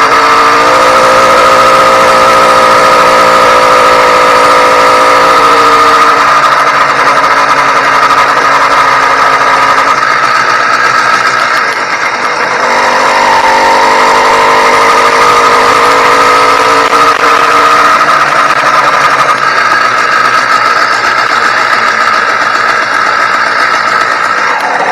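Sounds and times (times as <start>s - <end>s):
two-stroke bicycle engine running: 0.0s - 24.9s.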